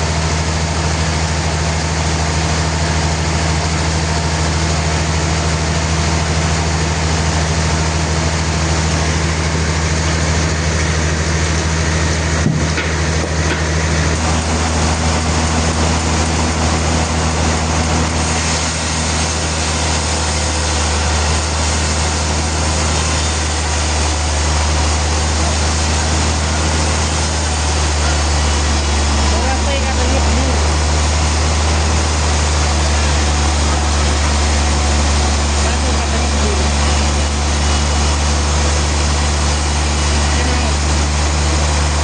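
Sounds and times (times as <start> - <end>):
sawmill machinery drone: 0.0 - 42.0.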